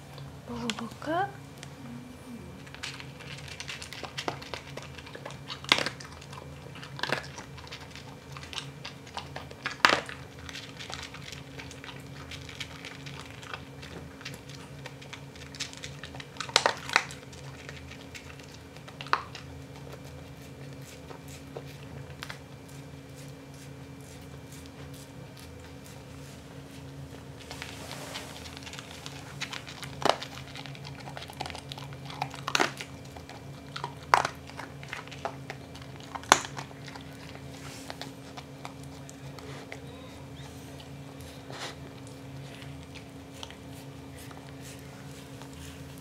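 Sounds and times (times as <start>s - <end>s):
steady low hum: 0.0s - 46.0s
dog crunching dry kibble: 2.6s - 27.7s, 28.4s - 40.0s, 40.8s - 46.0s.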